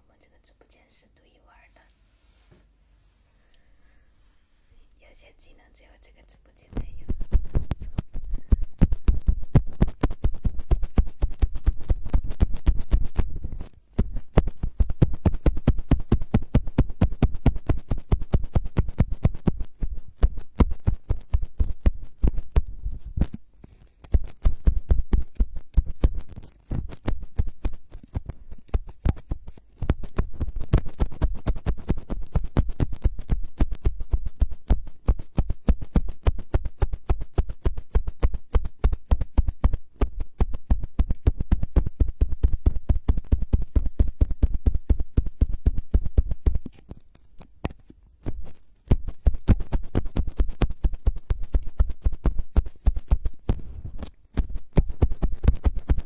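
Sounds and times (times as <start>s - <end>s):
tapping and scratching on microphone: 5.0s - 56.0s.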